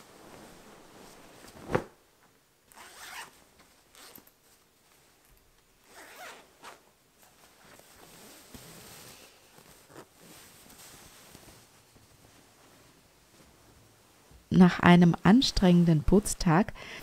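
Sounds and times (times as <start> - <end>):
fabric rustling and swishing: 0.0 - 14.5.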